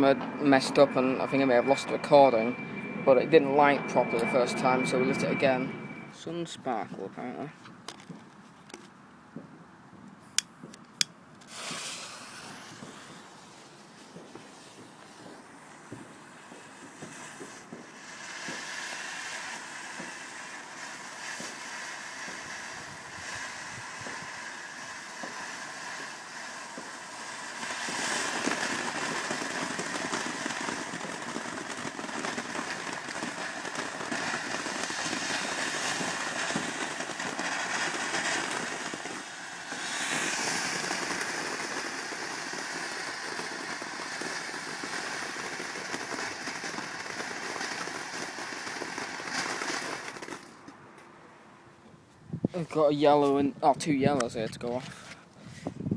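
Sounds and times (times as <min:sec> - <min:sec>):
firework fountain hissing and crackling: 0:00.0 - 0:08.8, 0:11.4 - 0:50.8.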